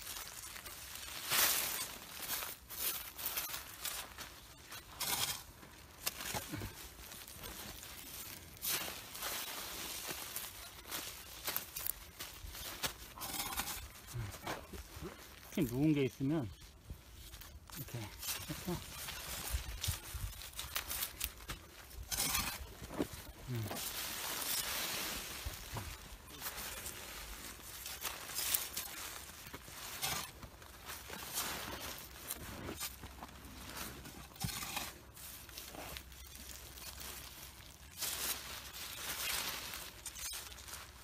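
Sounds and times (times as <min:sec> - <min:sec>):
plastic film crinkling: 0:00.0 - 0:34.4, 0:35.0 - 0:41.0
gritty soil scraping: 0:00.0 - 0:41.0
pattering soil: 0:00.0 - 0:41.0.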